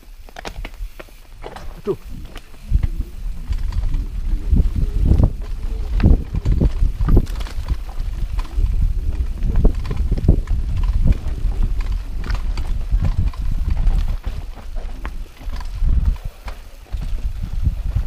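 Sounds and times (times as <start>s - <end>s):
low rumble of tyres: 0.0s - 18.0s
mountain bike rattling and knocking: 0.0s - 18.0s.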